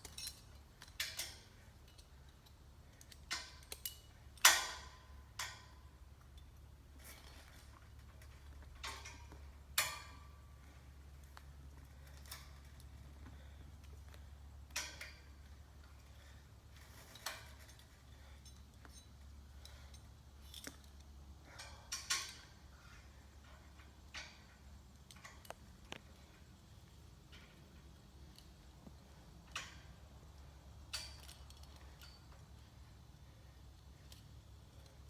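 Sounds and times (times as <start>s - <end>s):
metallic clinks on steel tower: 0.0s - 10.8s, 13.8s - 33.0s
low steady hum: 0.0s - 35.0s.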